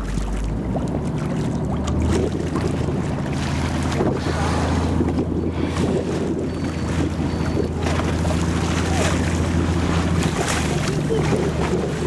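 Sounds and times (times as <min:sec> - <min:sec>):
boat engine humming: 0:00.0 - 0:12.0
sea water washing: 0:00.0 - 0:12.0
wind on microphone: 0:00.1 - 0:12.0.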